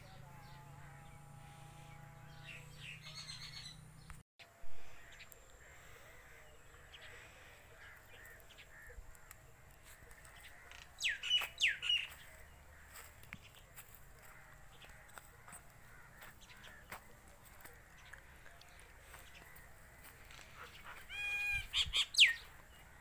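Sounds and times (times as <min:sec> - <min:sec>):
birds calling: 0:00.0 - 0:04.2, 0:04.8 - 0:23.0.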